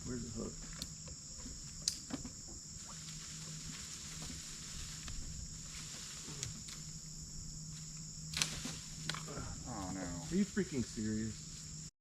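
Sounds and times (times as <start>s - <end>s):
insects chirping: 0.0s - 11.9s
low steady hum: 0.0s - 11.9s.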